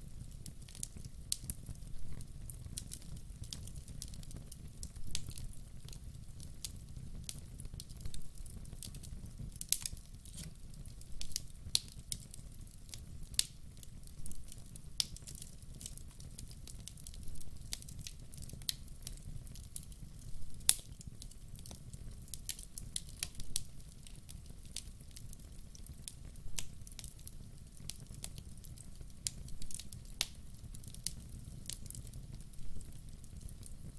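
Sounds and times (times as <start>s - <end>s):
burning logs crackling: 0.0s - 33.9s
low rumble of flames: 0.0s - 33.9s.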